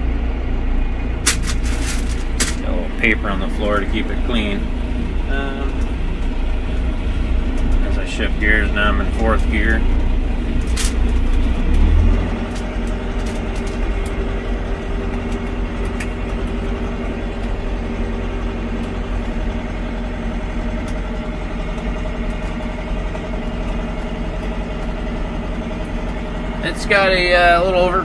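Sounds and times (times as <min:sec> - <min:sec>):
tractor diesel engine drone: 0:00.0 - 0:28.0.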